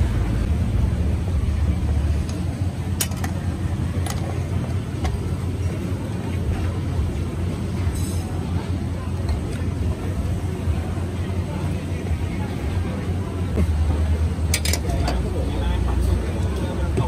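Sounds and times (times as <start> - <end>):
low street rumble: 0.0 - 17.0
faint background voices: 0.1 - 17.0.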